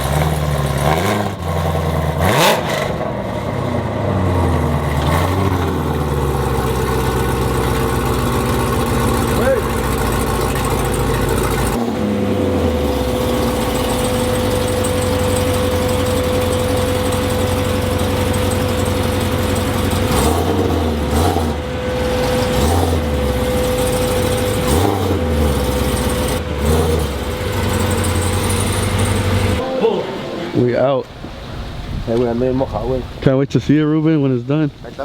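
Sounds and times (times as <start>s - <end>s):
vehicle engine idling and revving: 0.0s - 29.6s.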